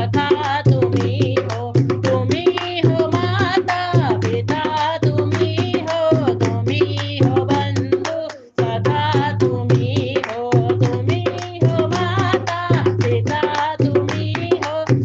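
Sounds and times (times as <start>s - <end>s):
tabla beat: 0.0s - 15.0s.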